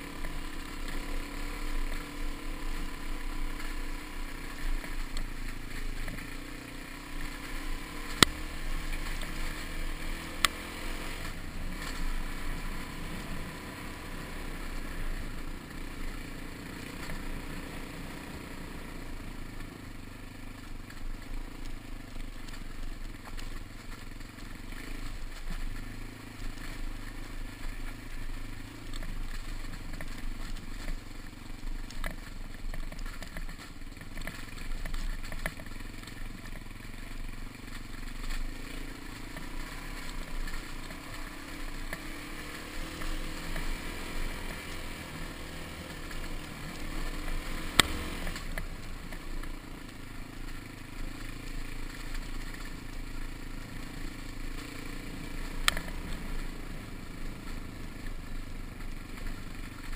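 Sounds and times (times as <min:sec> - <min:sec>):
bike rattling: 0:00.0 - 0:59.9
dirt bike engine running: 0:00.0 - 0:59.9.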